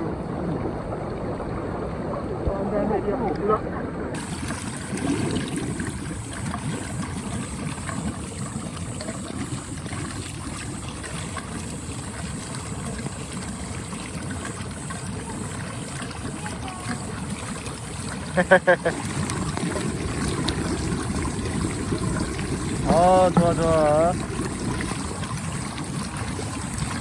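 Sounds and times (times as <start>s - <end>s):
water running and splashing: 0.0s - 27.0s.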